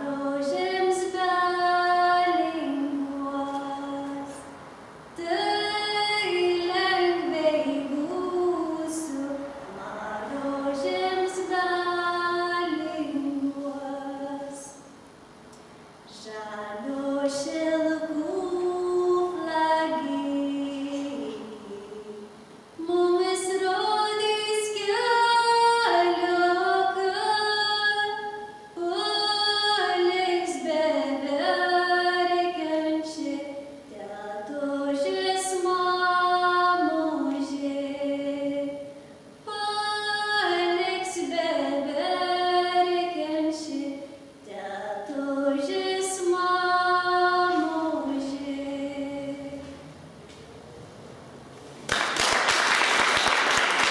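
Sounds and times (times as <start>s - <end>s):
woman singing unaccompanied: 0.0s - 4.5s, 5.2s - 14.9s, 16.1s - 49.8s.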